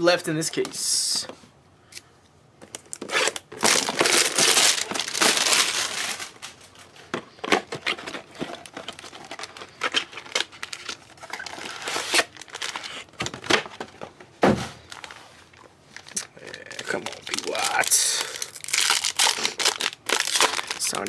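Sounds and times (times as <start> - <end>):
plastic wrapping crinkling and tearing: 2.7 - 14.0, 14.8 - 21.0.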